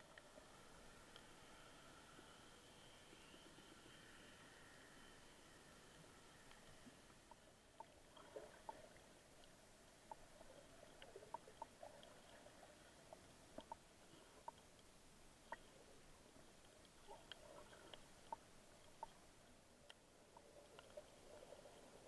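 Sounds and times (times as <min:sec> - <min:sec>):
faint underwater hiss: 0:00.0 - 0:22.0
small clicks and ticks: 0:00.0 - 0:22.0.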